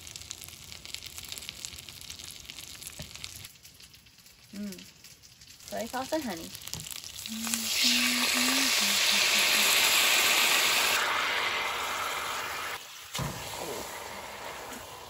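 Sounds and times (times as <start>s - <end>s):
fish sizzling in a hot pan: 0.0s - 15.0s.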